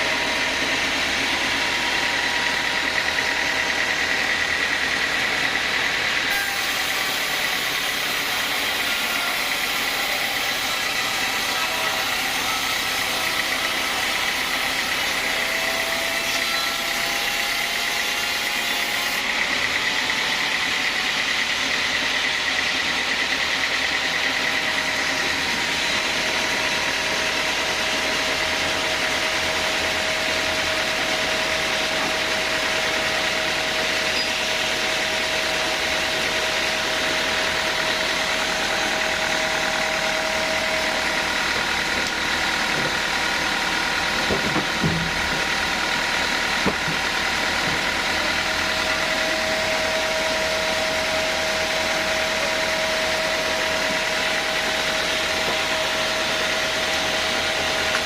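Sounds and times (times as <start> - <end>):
band saw running: 0.0 - 58.0.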